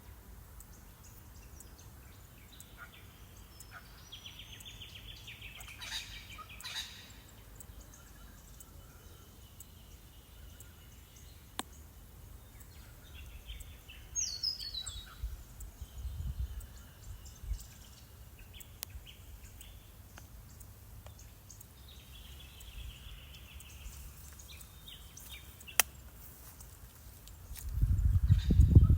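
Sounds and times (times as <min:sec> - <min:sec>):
birds calling: 0:00.6 - 0:28.9.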